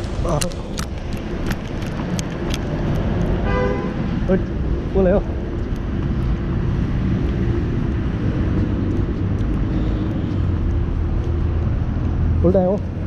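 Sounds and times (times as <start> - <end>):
city ambience rumble: 0.0 - 13.0.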